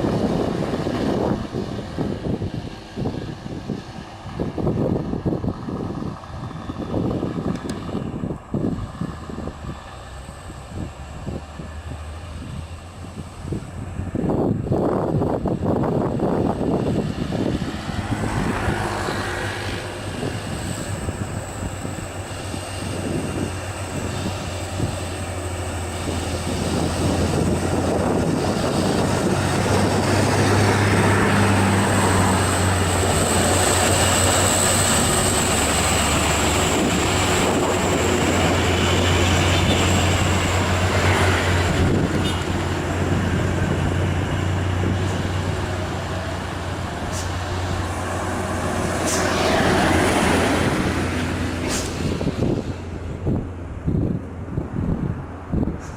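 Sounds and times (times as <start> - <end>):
truck diesel engine labouring: 0.0 - 55.9.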